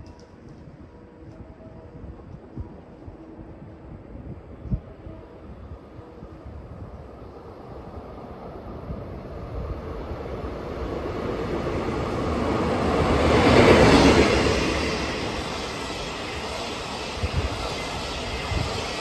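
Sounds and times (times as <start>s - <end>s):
diesel locomotive engine rumble: 0.1s - 19.0s.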